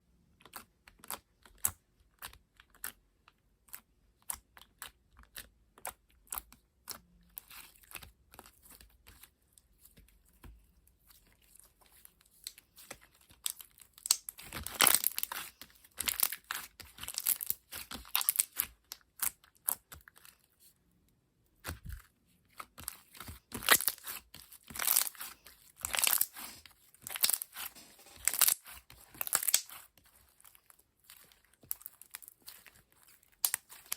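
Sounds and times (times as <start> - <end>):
slime squishing with sticky pops: 0.1 - 20.4, 21.5 - 33.9.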